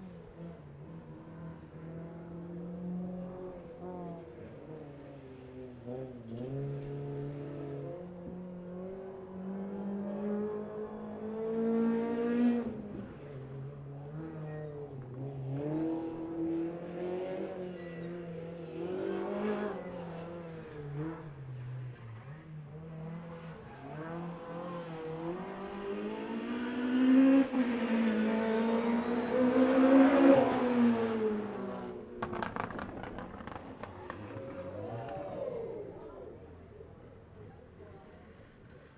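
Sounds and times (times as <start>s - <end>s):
rally car engine revving: 0.2s - 38.9s.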